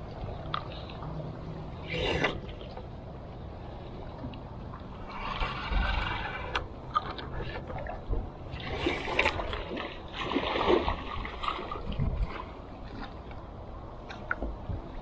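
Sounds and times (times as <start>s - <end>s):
water splashing against hull: 0.0s - 15.0s.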